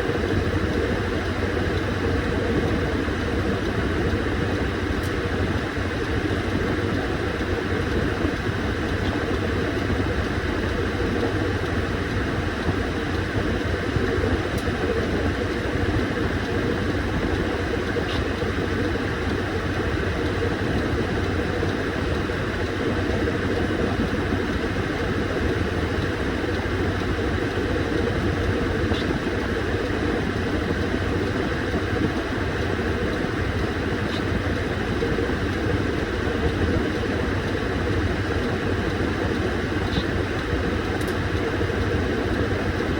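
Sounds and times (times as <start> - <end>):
washing machine running: 0.0 - 42.9.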